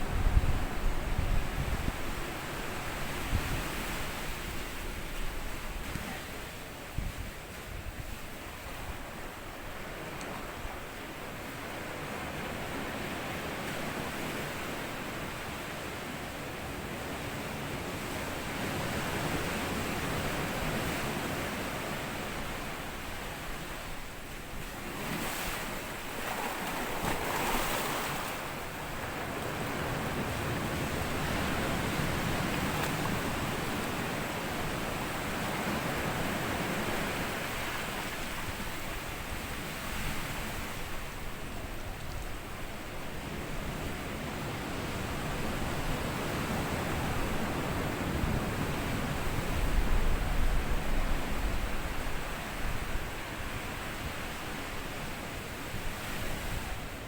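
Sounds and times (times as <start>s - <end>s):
small waves washing on sand: 0.0s - 57.0s.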